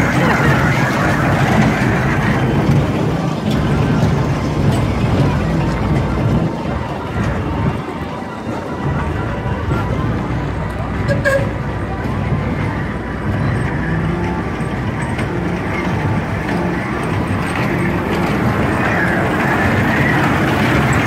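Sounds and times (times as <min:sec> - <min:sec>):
engines and machinery rumbling: 0:00.0 - 0:21.0.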